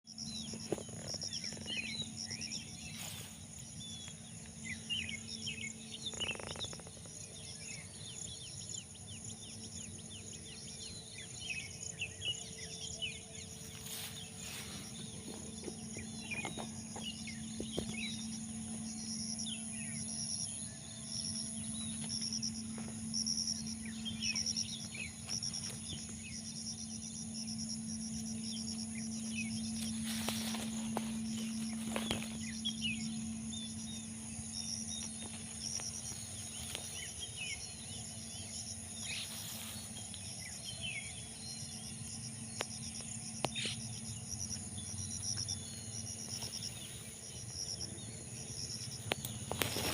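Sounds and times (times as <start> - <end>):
high insect drone: 0.1 - 49.9
low hum: 0.1 - 49.9
pulsing insect trill: 0.1 - 49.9
small birds chirping: 0.1 - 49.9.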